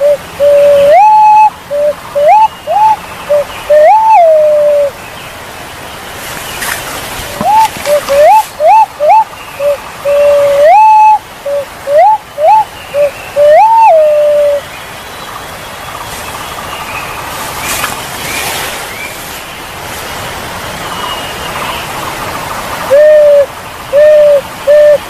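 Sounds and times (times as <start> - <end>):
pigeon calling: 0.0 - 4.9, 6.2 - 14.7, 15.8 - 25.0
steady background hiss: 0.0 - 25.0.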